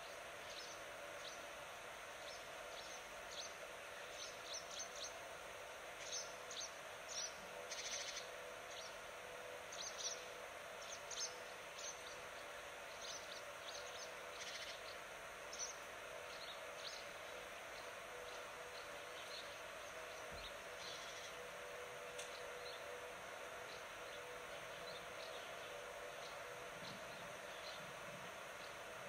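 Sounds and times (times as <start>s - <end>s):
birds chirping: 0.0s - 29.0s
faint steady hum: 0.0s - 29.0s.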